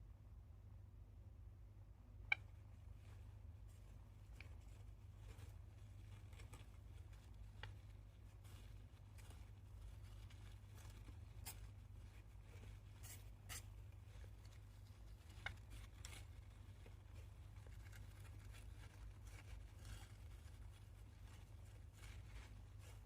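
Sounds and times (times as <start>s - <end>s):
hamster clicks and scratching: 2.3s - 23.0s.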